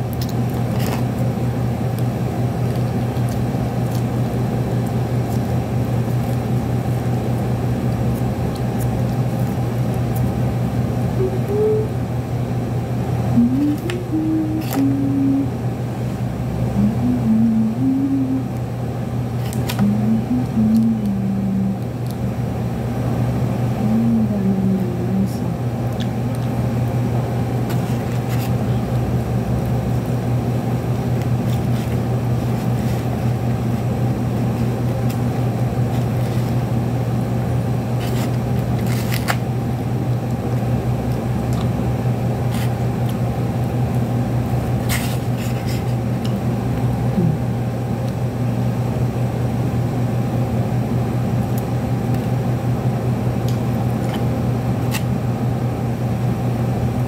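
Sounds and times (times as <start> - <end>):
steady machine hum: 0.0 - 57.0.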